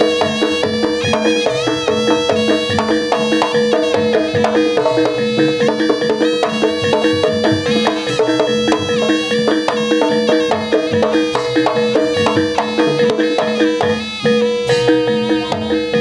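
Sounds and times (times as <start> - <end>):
nasal reed pipe melody: 0.0 - 16.0
quick steady drumming: 0.0 - 16.0.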